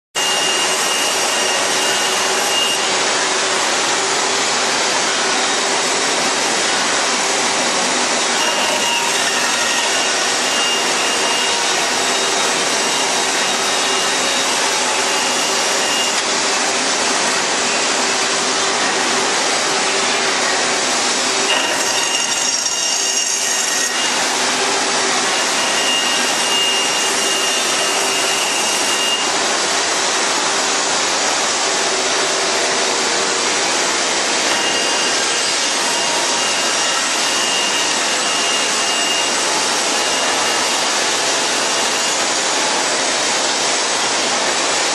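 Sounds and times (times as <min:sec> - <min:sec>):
band saw cutting wood: 0:00.2 - 0:44.9.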